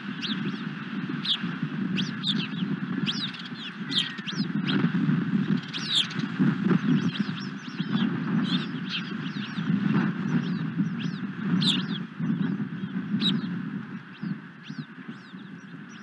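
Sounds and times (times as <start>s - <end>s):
osprey whistled chirps: 0.0s - 16.0s
steady low rumble: 0.0s - 16.0s.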